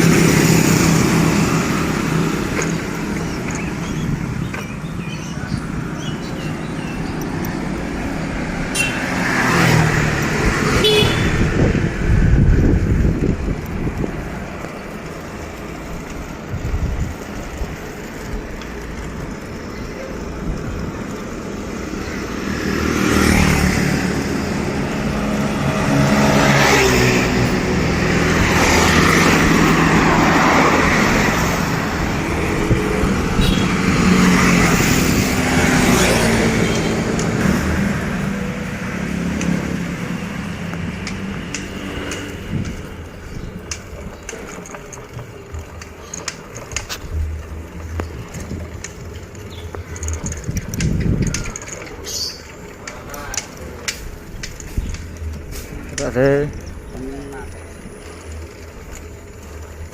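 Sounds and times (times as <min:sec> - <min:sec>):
motor vehicles passing: 0:00.0 - 0:59.9.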